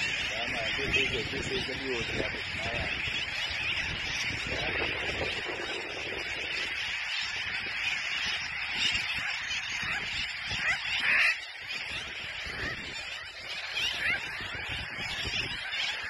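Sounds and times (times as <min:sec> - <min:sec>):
seabirds calling: 0:00.0 - 0:16.0
wind buffeting microphone: 0:00.0 - 0:16.0.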